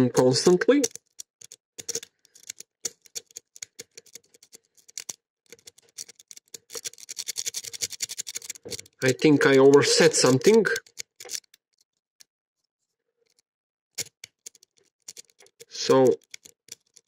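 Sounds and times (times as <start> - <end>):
lock pins clicking: 0.8 - 11.8, 14.0 - 17.0
lock pick scraping in padlock: 0.8 - 12.0, 14.0 - 17.0.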